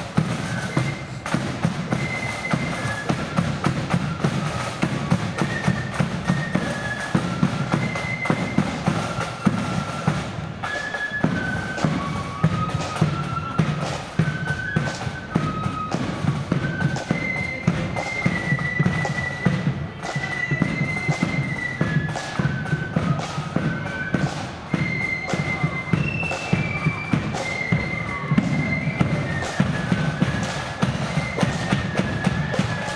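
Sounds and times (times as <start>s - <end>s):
high flute melody: 0.0s - 32.9s
rapid snare drumming: 0.0s - 32.9s.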